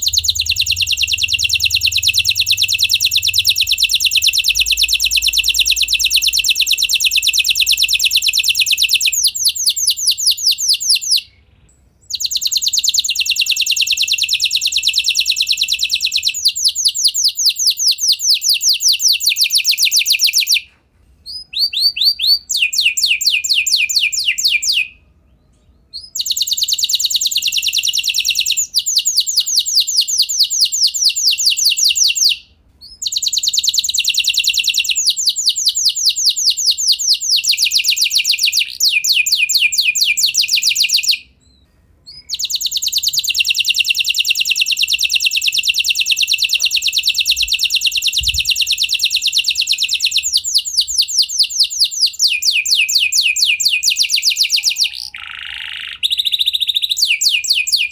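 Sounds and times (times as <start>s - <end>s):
canary singing trills: 0.0s - 20.6s, 21.3s - 57.9s.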